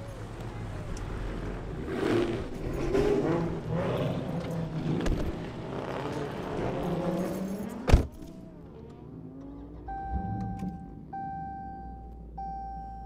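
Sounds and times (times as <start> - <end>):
car engines accelerating: 0.0 - 12.4.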